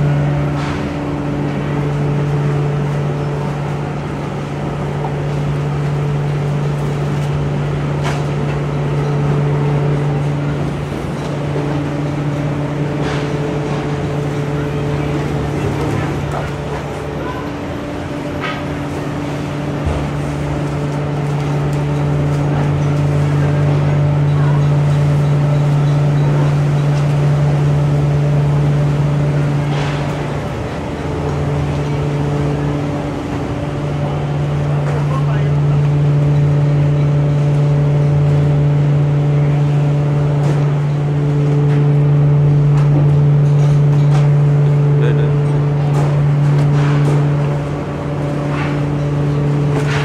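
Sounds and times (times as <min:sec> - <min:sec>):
low hum of fans and motors: 0:00.0 - 0:50.0.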